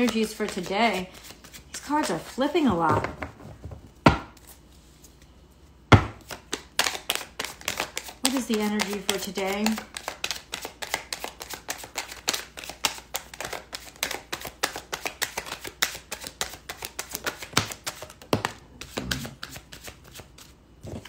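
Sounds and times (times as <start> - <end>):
cards being shuffled: 0.0 - 2.4, 6.2 - 21.0.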